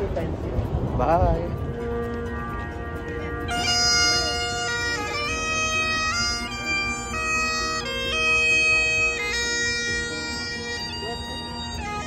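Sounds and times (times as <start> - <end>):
bagpipes playing: 1.4 - 12.0.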